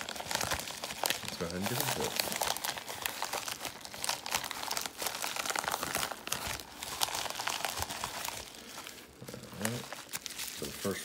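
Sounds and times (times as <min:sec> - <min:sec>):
plastic mailer crinkling: 0:00.0 - 0:11.0.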